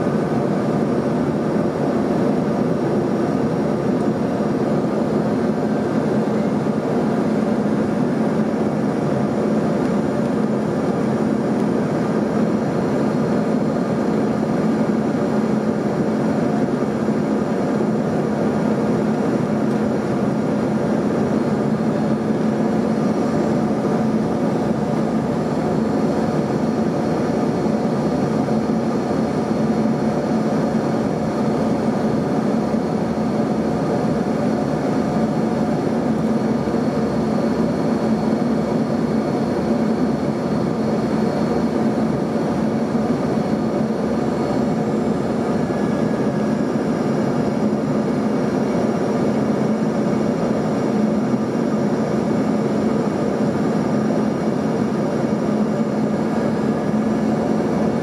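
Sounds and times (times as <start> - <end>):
airflow rush in jet cabin: 0.0 - 58.0
jet engines humming: 0.0 - 58.0.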